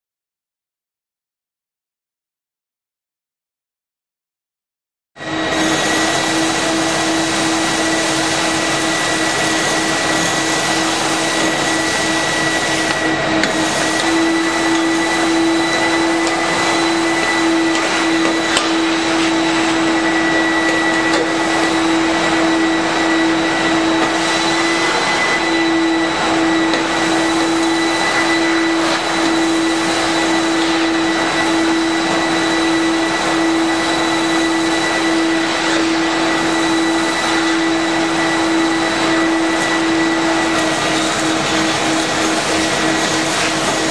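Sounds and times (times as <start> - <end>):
industrial vacuum cleaner running: 5.2 - 43.9
sawdust sucked through hose: 5.2 - 43.9.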